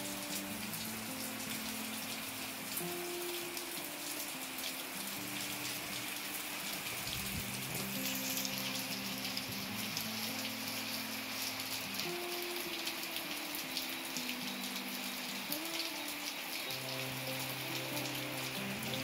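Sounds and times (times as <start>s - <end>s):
faint background music: 0.0s - 19.0s
rain pattering on concrete and water: 0.0s - 19.0s.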